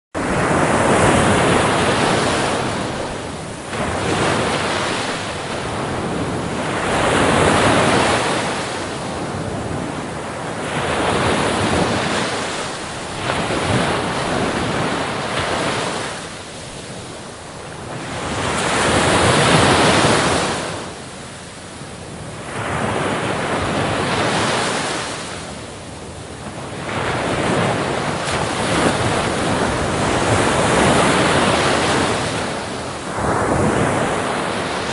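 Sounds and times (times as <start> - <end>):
ocean surf breaking: 0.2 - 34.9.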